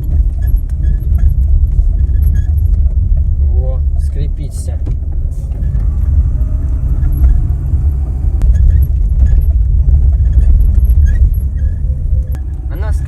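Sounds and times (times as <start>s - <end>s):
faint short squeaks: 0.0s - 2.8s, 5.3s - 13.0s
car road noise rumble: 0.0s - 13.0s.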